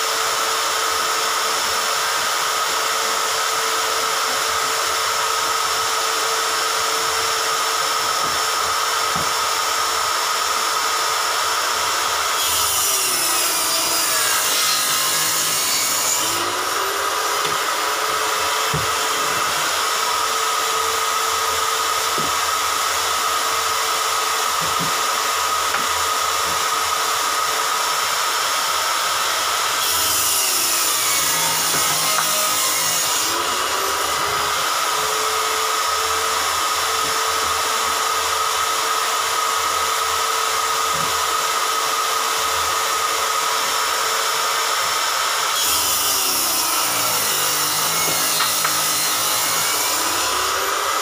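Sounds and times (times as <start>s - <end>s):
saw cutting through panel: 0.0s - 51.0s
table saw motor whine: 0.2s - 51.0s.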